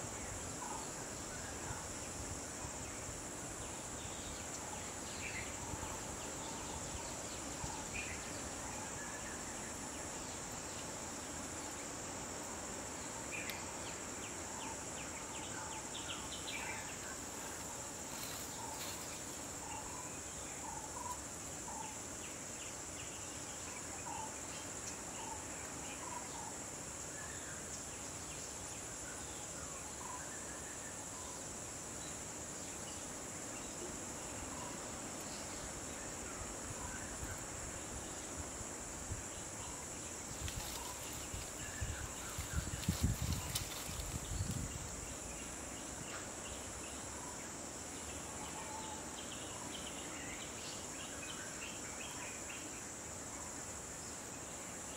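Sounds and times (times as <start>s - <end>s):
insects droning: 0.0s - 54.9s.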